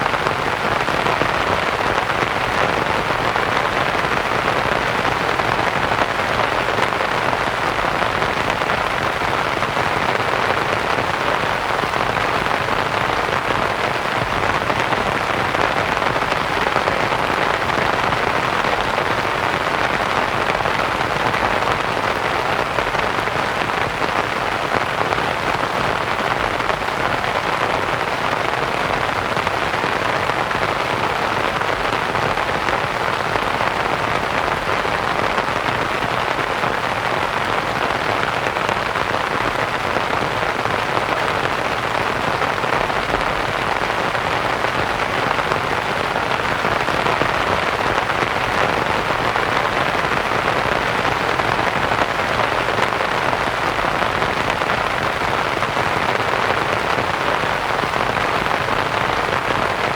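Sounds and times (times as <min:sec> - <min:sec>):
rain pattering on a canvas tent: 0:00.0 - 0:59.9.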